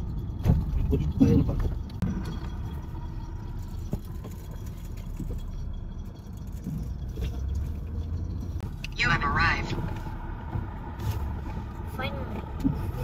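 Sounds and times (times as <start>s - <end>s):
car engine rumble: 0.0s - 13.0s
tyres on pavement: 0.0s - 13.0s.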